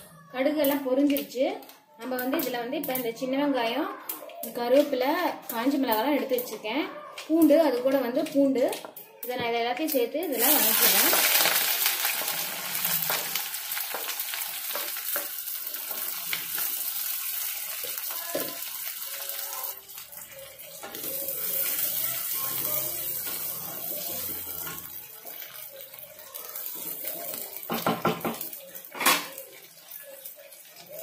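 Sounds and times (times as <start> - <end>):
shallots and garlic sizzling in oil: 0.4 - 3.8, 4.4 - 6.7, 7.3 - 31.0.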